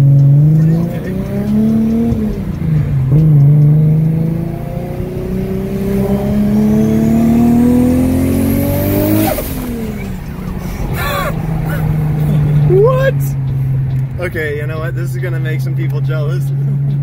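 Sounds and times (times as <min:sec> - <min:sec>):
car engine revving in cabin: 0:00.0 - 0:17.0.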